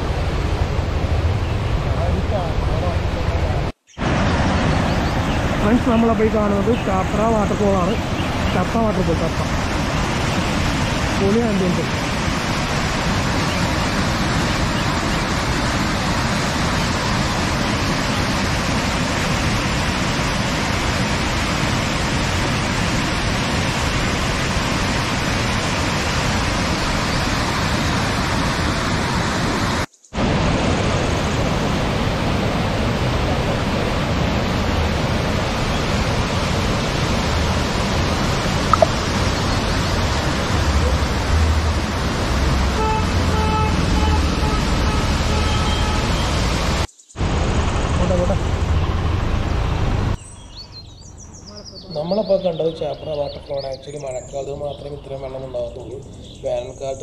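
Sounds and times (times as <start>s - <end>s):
waterfall roaring over rocks: 0.0s - 50.2s.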